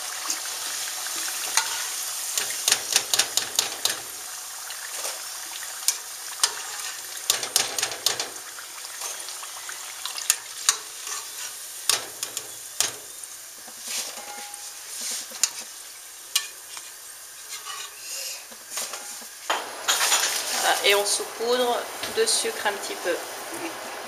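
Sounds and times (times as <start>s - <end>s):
dough sizzling in hot oil: 0.0s - 24.0s.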